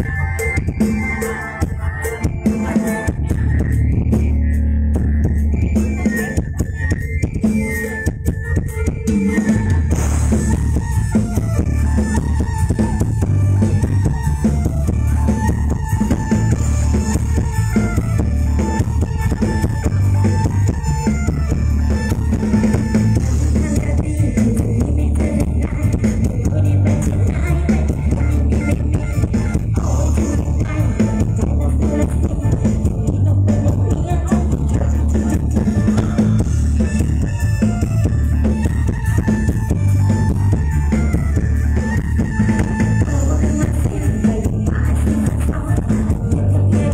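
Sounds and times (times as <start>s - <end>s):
drum kit: 0.0s - 46.9s
heavy pulsing bass: 0.0s - 46.9s
loud live band music: 0.0s - 46.9s.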